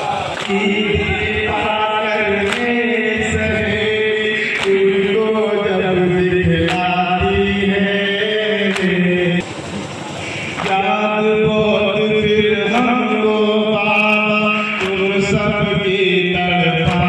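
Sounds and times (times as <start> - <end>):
men chanting a lament: 0.0 - 9.4, 10.2 - 17.0
noisy hiss: 0.0 - 17.0.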